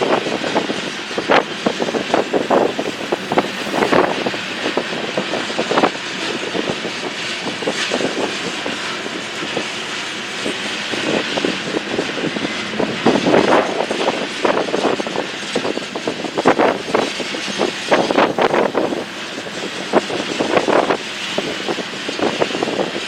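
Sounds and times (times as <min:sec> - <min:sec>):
railroad cars rumbling: 0:00.0 - 0:23.0.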